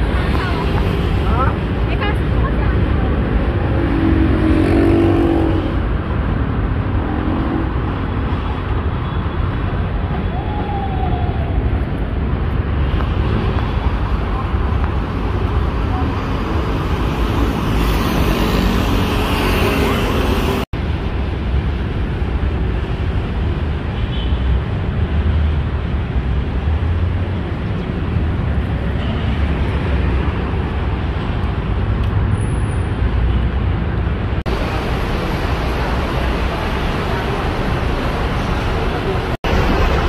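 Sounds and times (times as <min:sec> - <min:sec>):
city street traffic hum: 0:00.0 - 0:40.0.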